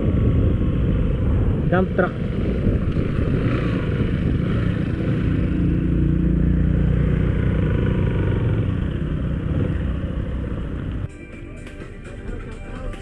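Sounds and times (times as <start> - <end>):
vehicle engine passing close: 0.0 - 11.1
road and wind noise: 0.0 - 13.0.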